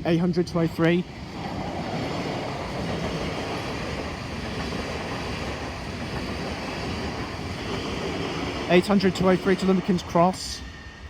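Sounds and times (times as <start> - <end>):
train wheels rumbling past: 0.0 - 11.0.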